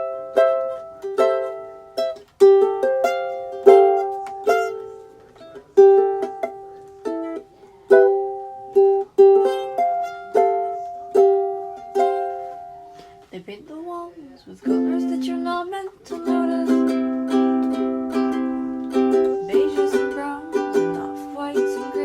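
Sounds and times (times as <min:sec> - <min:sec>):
ukulele chords: 0:00.0 - 0:13.3, 0:14.6 - 0:22.0.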